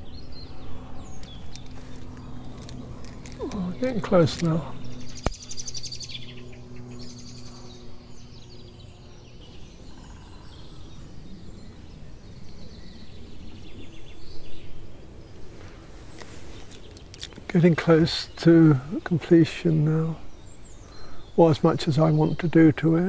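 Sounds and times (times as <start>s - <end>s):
outdoor background noise: 0.0s - 23.0s
wild birds chirping and calling: 0.0s - 23.0s.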